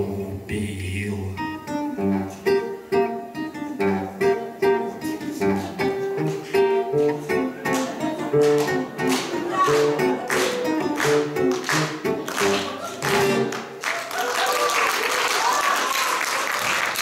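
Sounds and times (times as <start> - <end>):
acoustic guitar strumming: 0.0 - 13.8.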